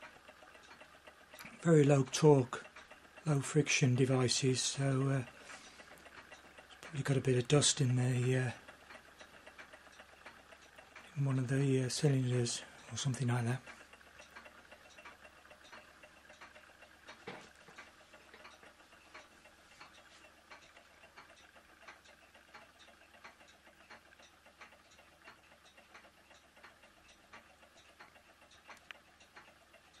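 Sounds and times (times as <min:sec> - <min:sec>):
small engines ticking: 0:00.0 - 0:30.0.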